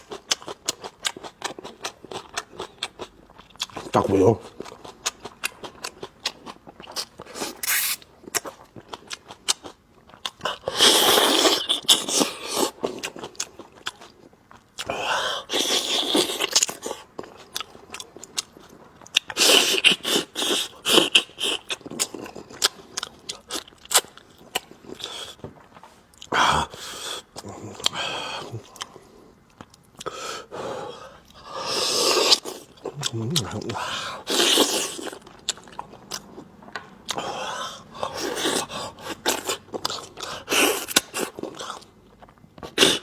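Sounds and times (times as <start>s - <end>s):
wet chewing and lip-smacking: 0.0s - 14.9s, 15.5s - 26.3s, 27.2s - 30.2s, 32.1s - 43.0s.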